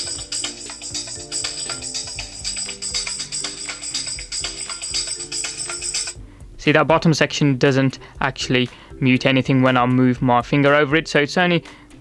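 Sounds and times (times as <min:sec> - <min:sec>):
music with percussive beat from phone: 0:00.0 - 0:07.2, 0:08.0 - 0:12.0.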